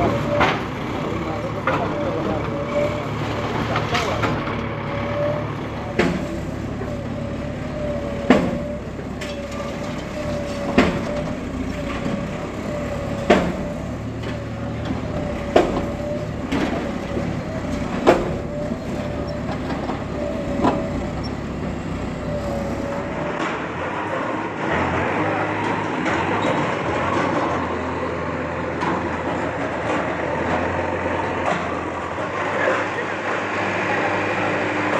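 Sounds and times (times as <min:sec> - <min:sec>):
bulldozer engine with whine: 0:00.0 - 0:34.9.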